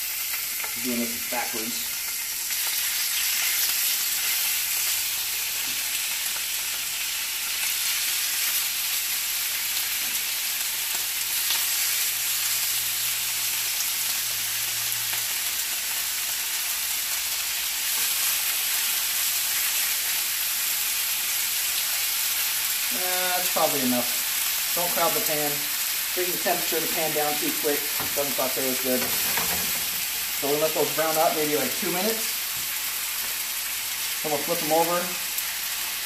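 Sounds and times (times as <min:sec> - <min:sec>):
chicken sizzling in oil: 0:00.0 - 0:36.0.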